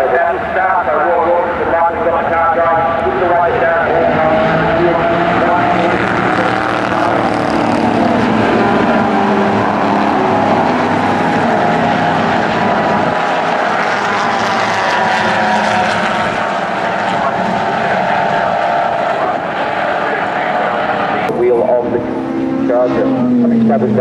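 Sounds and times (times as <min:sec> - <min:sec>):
race car engines at speed: 0:00.0 - 0:24.0.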